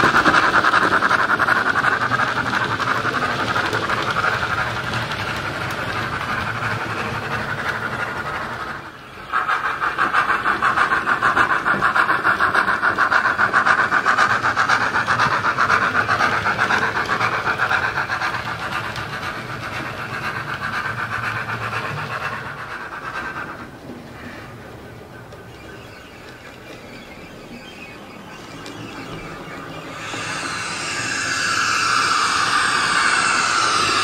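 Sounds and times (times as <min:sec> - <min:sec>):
model steam locomotive chuffs: 0:00.0 - 0:34.0.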